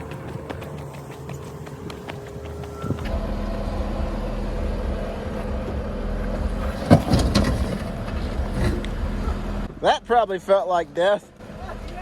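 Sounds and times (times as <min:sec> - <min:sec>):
off-road vehicle engine running low: 0:00.0 - 0:10.5.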